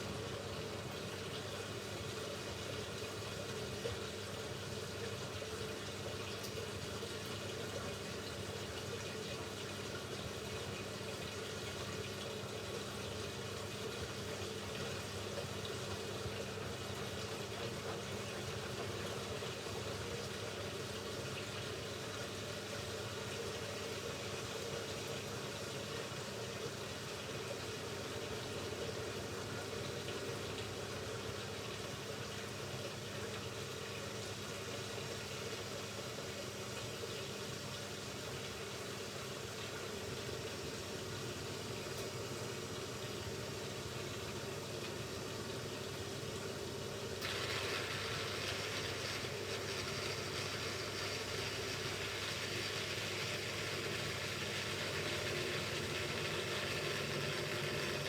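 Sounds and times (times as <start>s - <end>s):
faint steady hum: 0.0s - 58.0s
water pouring into drum: 0.1s - 58.0s.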